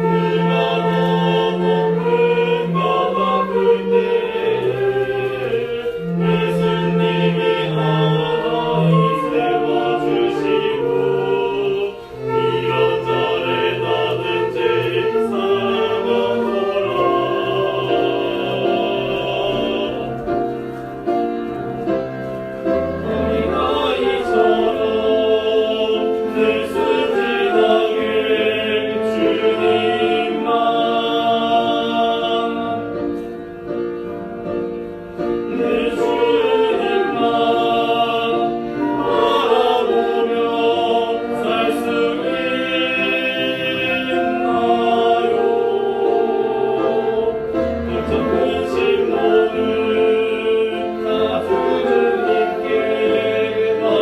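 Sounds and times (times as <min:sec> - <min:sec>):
choir singing: 0:00.0 - 0:54.0
orchestral accompaniment: 0:00.0 - 0:54.0.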